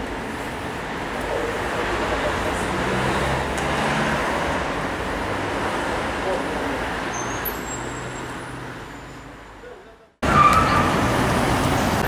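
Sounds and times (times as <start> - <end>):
passing road vehicles: 0.0 - 12.0.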